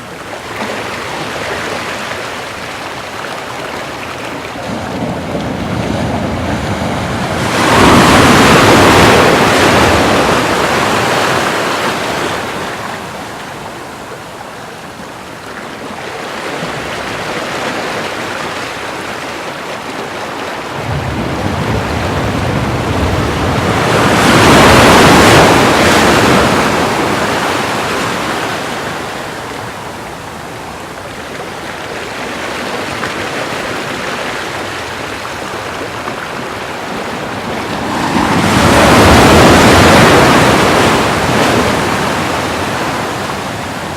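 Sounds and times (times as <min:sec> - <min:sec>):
waves breaking on shore: 0:00.0 - 0:43.9.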